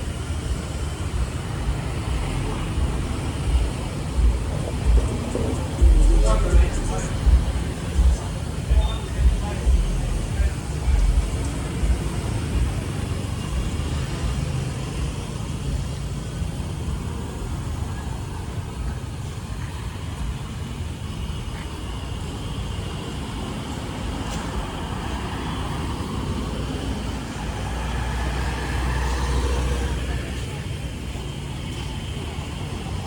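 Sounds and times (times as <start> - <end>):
passing vehicles hum: 0.0 - 33.0
vehicle low rumble: 0.0 - 33.0.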